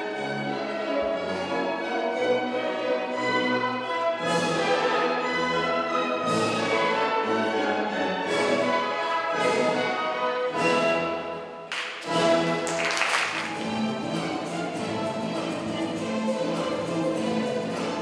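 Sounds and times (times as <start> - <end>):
accented orchestral chords: 0.0 - 18.0
orchestral classical music: 0.0 - 18.0.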